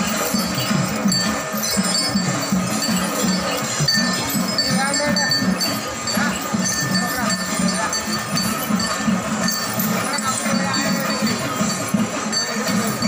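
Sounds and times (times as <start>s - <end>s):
bells and chains jingling: 0.0s - 13.0s.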